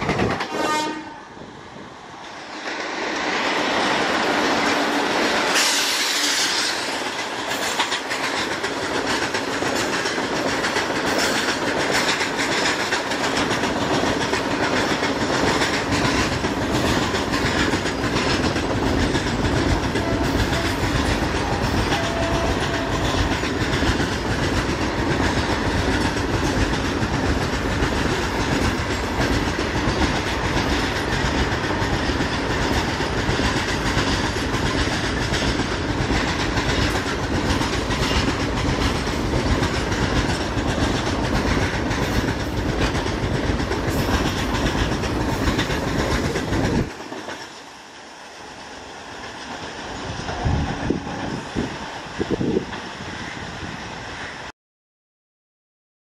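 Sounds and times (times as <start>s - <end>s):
freight train rumbling past: 0.0s - 54.5s
wheels clattering over rail joints: 2.6s - 47.8s.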